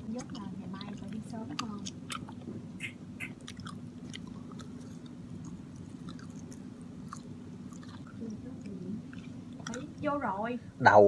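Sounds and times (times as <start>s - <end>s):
man chewing with wet smacks: 0.0s - 10.0s
steady low hum: 0.0s - 11.0s.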